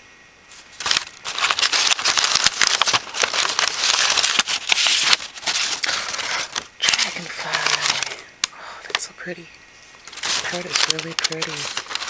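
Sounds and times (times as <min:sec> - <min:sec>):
paper rustling and crinkling: 0:00.5 - 0:08.3, 0:10.0 - 0:12.0.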